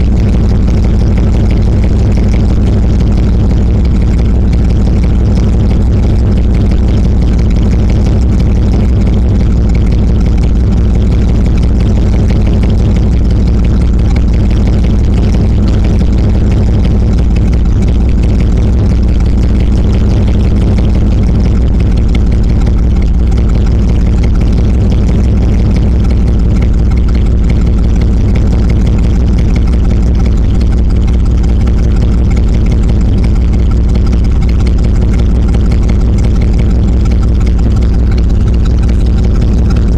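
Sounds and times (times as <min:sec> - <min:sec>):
loud unmuffled truck engine idling: 0:00.0 - 0:39.9.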